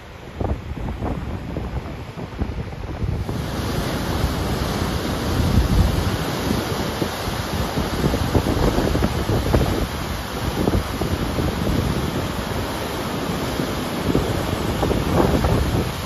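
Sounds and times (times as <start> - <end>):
waterfall and rapids rushing: 0.0 - 16.0
wind buffeting microphone: 0.0 - 16.0.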